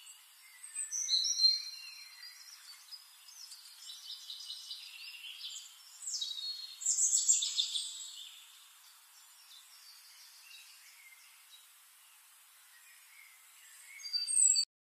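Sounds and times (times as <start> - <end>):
faint hiss: 0.0 - 14.6
birds chirping: 0.0 - 14.7.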